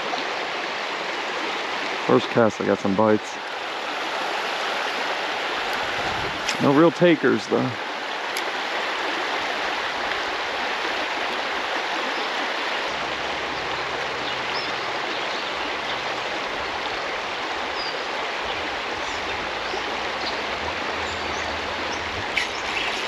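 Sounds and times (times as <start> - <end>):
creek water over rocks: 0.0 - 23.0.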